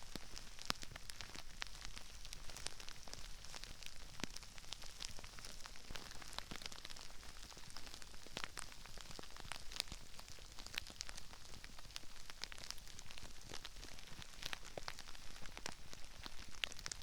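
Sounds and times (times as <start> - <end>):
crispy rice crackling: 0.0 - 17.0.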